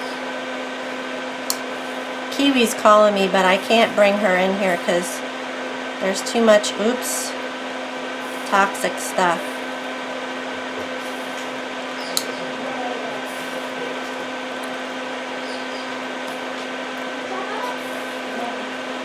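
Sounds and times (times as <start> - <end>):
electric fan motor whirring: 0.0 - 19.0.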